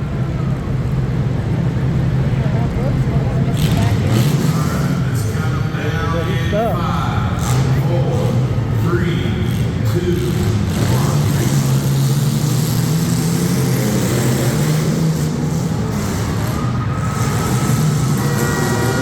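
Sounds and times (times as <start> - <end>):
race car engines droning: 0.0 - 19.0.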